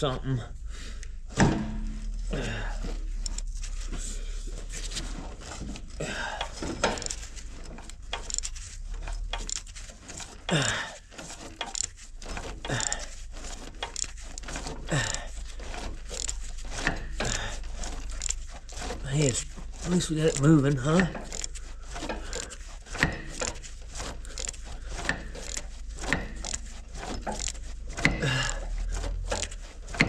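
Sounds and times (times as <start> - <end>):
ratchet clicking and clinking: 1.8 - 3.9, 4.6 - 30.0.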